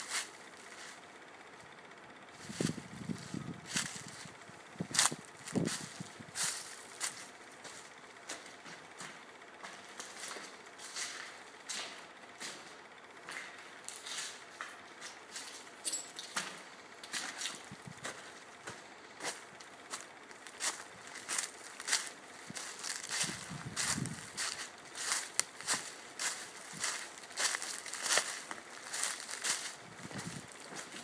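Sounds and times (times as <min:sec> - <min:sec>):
footsteps crunching on dry leaves: 0:00.0 - 0:01.2, 0:02.3 - 0:15.8, 0:17.1 - 0:31.0.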